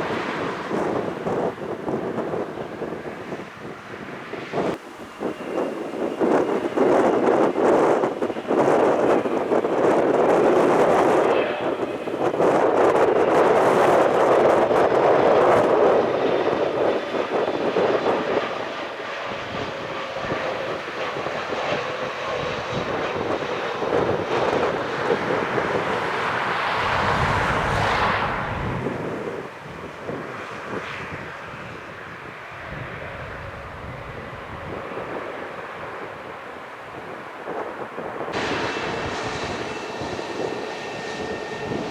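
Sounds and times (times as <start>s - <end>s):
falling jet whine: 0.0s - 41.9s
jet engines roaring: 0.0s - 41.9s.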